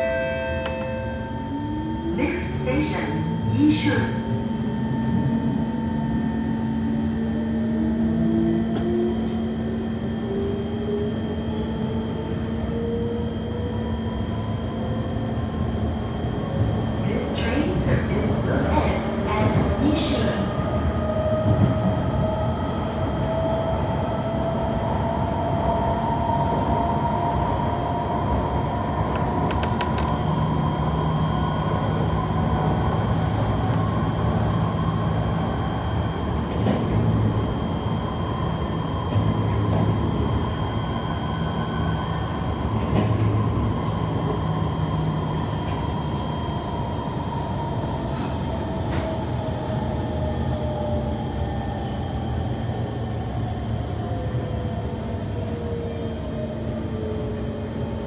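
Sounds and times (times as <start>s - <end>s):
train wheels rumbling on rail: 7.7s - 58.0s.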